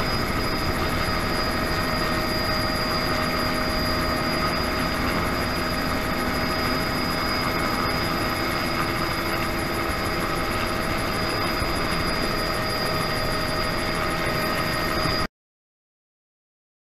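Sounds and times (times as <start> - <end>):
helicopter rotor noise: 0.0 - 15.3
helicopter turbine whine: 0.0 - 15.3.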